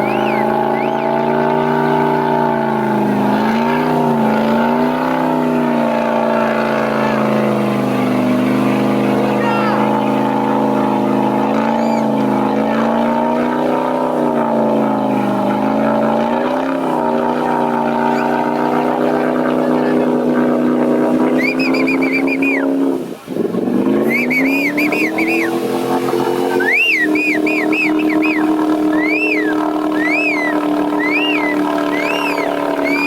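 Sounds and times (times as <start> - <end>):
race vehicle engine revving: 0.0 - 33.0.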